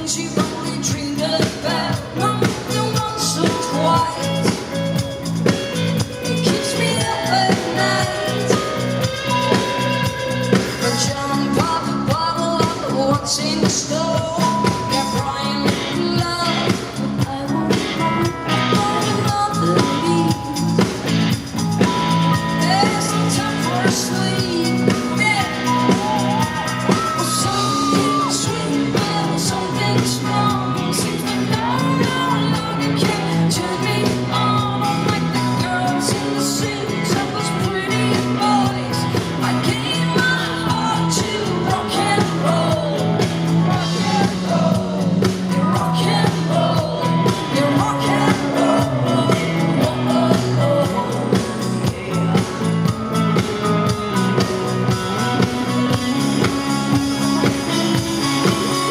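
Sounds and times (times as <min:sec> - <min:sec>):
live rock band playing: 0:00.0 - 0:58.9
person singing: 0:00.0 - 0:58.9.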